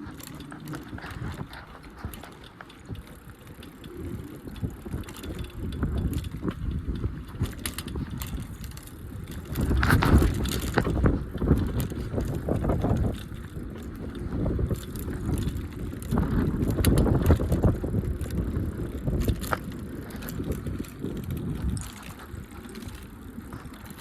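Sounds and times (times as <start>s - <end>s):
bicycle parts rattling and clicking: 0.0s - 24.0s.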